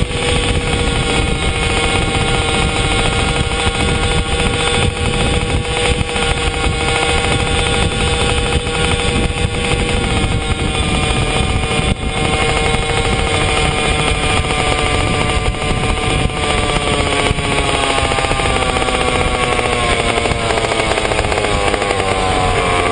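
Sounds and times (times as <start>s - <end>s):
moped two-stroke engine running: 0.0s - 22.9s
wind rushing over microphone: 0.0s - 22.9s.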